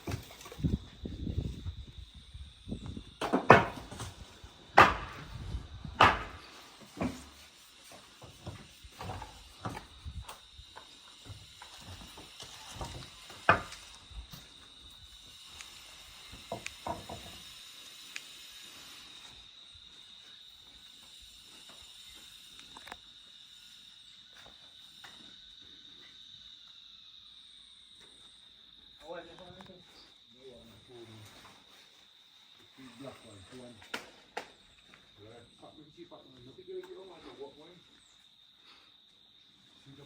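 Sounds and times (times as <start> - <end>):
high insect drone: 0.0 - 40.0.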